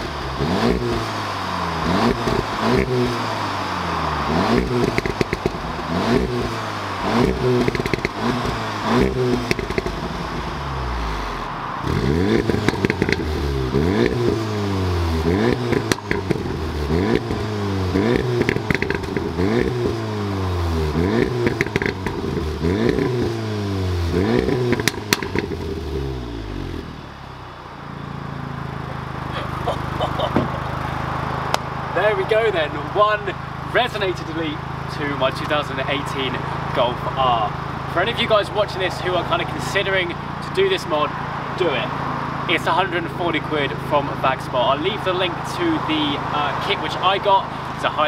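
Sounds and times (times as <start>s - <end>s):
car engine revving: 0.0s - 48.0s
exhaust crackles: 0.0s - 48.0s.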